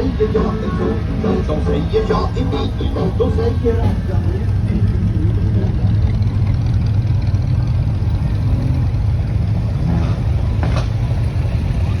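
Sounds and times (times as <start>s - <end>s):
car engine cruising: 0.0s - 12.0s.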